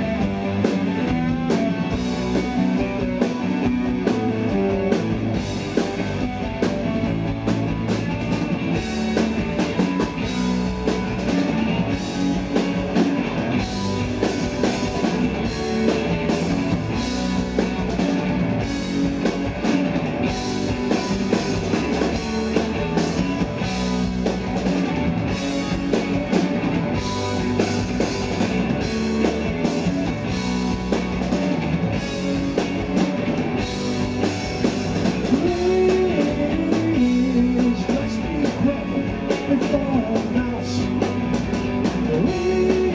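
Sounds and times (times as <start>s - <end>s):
bass guitar: 0.0s - 42.9s
drum kit: 0.0s - 42.9s
electric guitars: 0.0s - 42.9s.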